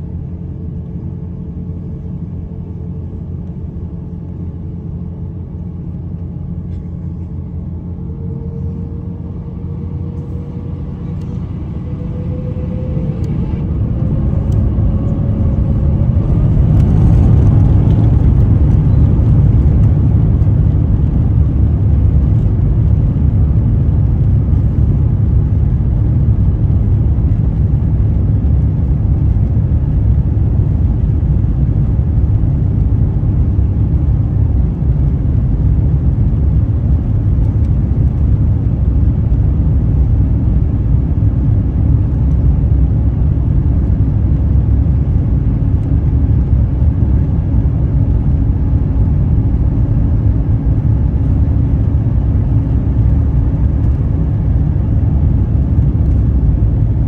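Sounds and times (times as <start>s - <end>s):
aircraft cabin rumble while taxiing: 0.0s - 57.0s.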